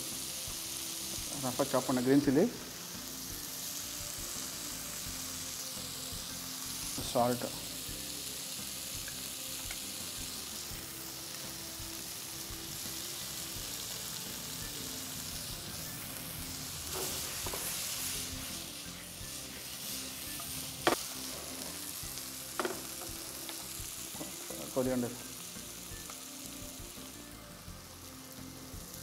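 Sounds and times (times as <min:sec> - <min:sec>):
stir-fry sizzling in oil: 0:00.0 - 0:29.0.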